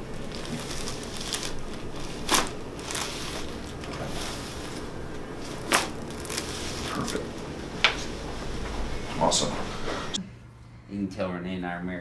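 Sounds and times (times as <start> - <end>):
rustling: 0.0 - 10.9.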